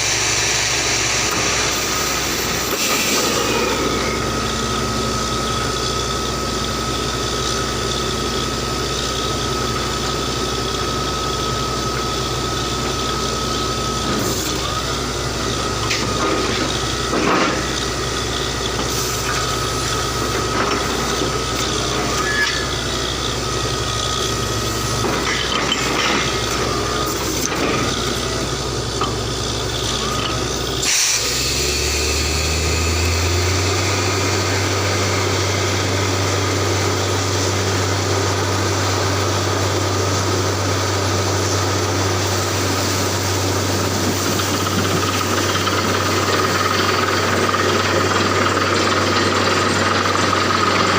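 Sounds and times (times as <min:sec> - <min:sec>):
engine running: 0:00.0 - 0:50.9.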